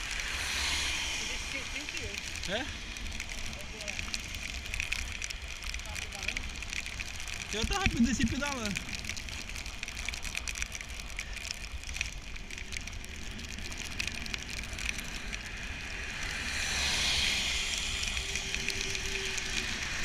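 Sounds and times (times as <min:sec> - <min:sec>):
rain ticking: 0:00.0 - 0:20.0
tyres hissing on wet road: 0:00.0 - 0:20.0
wind rumble on microphone: 0:00.0 - 0:20.0.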